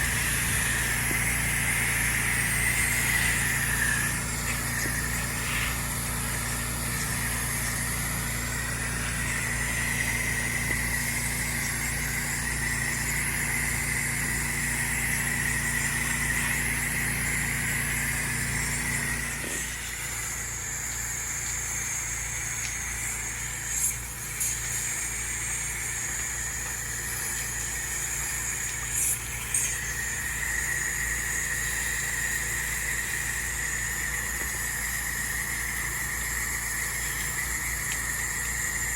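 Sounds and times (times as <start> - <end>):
high-pressure spray hissing: 0.0 - 38.9
pressure washer engine humming: 0.0 - 38.9.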